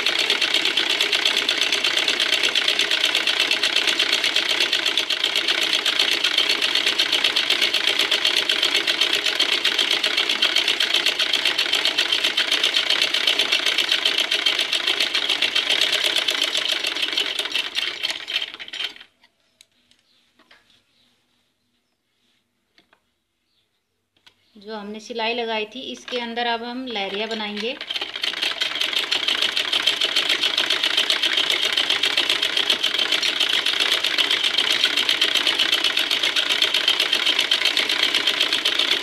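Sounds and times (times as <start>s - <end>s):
sewing machine stitching: 0.0s - 19.2s, 26.9s - 39.0s.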